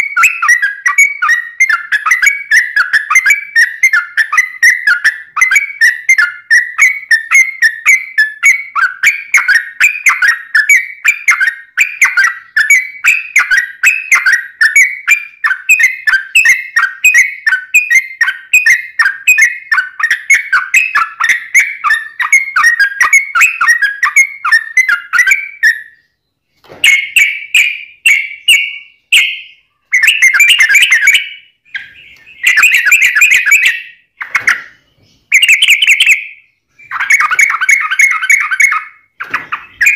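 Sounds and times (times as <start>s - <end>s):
bird singing whistled chirps: 0.0s - 39.9s.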